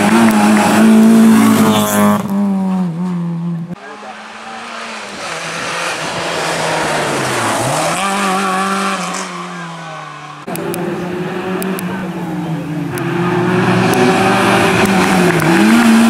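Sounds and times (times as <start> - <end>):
car engine at high revs: 0.0 - 16.0
rally car engine accelerating: 0.0 - 16.0.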